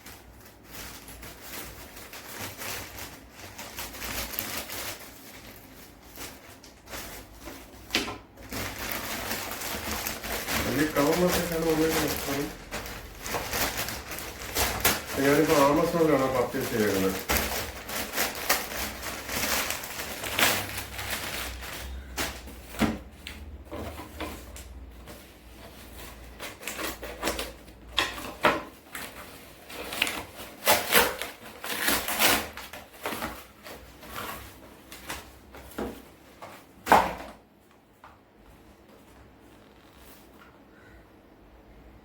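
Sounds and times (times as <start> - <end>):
packaging rustling: 0.0 - 37.3.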